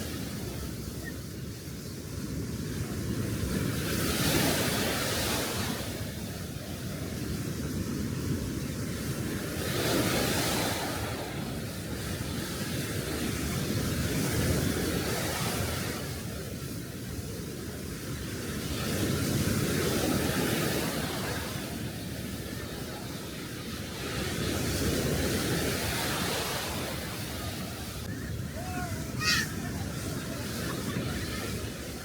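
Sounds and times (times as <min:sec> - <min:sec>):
sea waves washing onto beach: 0:00.0 - 0:32.0.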